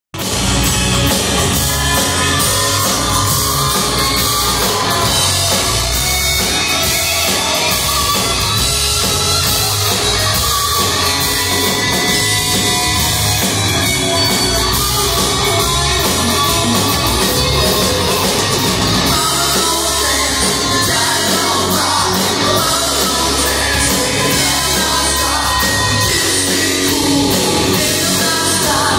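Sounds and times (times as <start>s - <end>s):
bass guitar: 0.1s - 28.9s
distorted electric guitars: 0.1s - 28.9s
drums: 0.1s - 28.9s.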